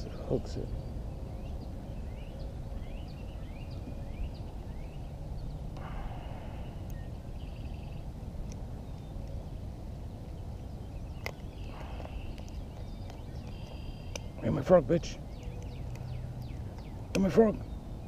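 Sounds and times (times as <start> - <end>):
bird chirping: 0.0 - 18.0
buzzy bird calls: 0.0 - 18.0
wind rumble on microphone: 0.0 - 18.0.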